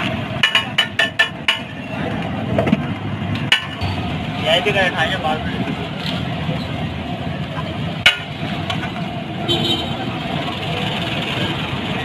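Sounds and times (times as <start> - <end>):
passing traffic: 0.0 - 12.0.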